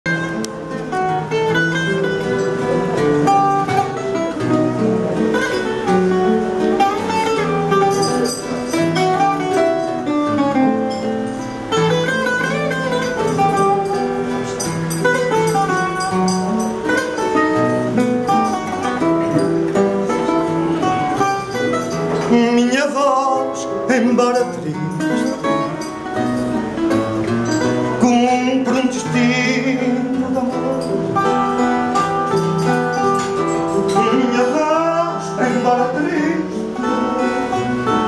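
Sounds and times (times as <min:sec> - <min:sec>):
plucked guitar melody: 0:00.0 - 0:38.0
strummed guitar accompaniment: 0:00.0 - 0:38.0.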